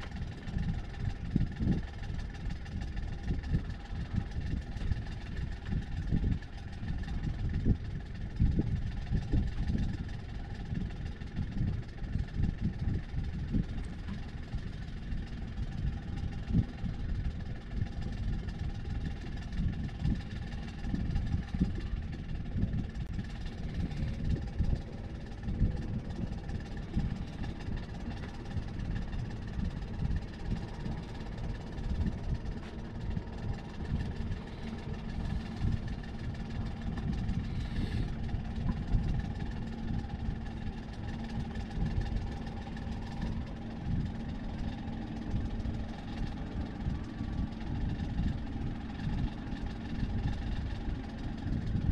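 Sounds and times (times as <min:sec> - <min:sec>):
faint steady tones: 0:00.0 - 0:51.8
boat engine rumbling: 0:00.0 - 0:51.9
wind buffeting microphone: 0:00.0 - 0:51.9.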